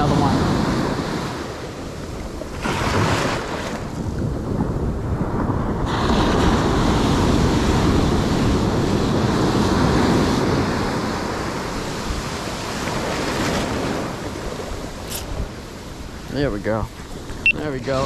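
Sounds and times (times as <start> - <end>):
wave crashing: 0.0 - 16.4.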